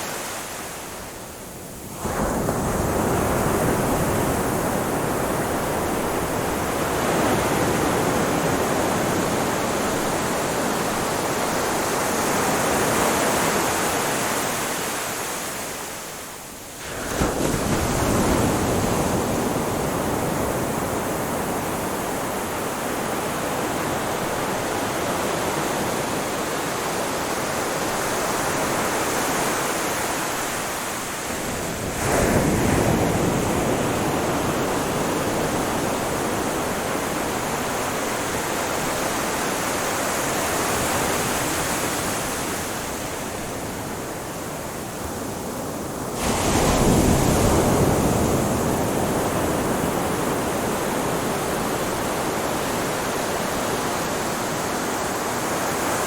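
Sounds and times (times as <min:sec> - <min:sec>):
large waves breaking: 0:00.0 - 0:56.0
ocean waves washing onto shore: 0:00.0 - 0:56.0.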